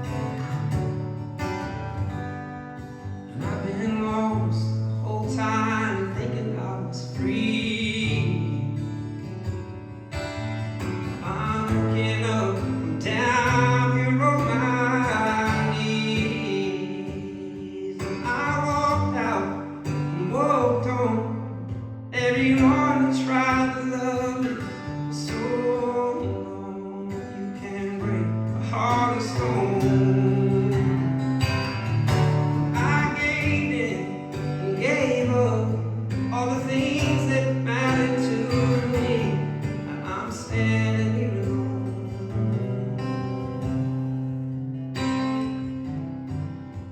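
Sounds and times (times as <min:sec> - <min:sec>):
guitar accompaniment: 0:00.0 - 0:46.9
man singing slow song: 0:02.8 - 0:09.6, 0:10.6 - 0:44.4.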